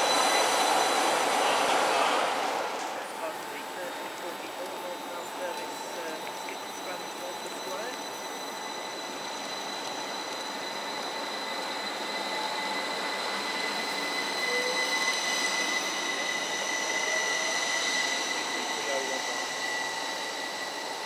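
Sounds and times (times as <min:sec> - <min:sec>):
electric train passing with whine: 0:00.0 - 0:21.0.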